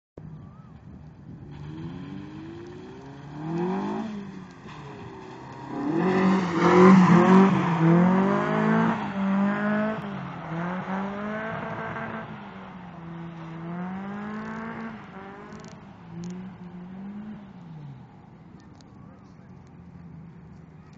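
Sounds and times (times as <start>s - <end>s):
car engine revving: 0.5s - 20.9s.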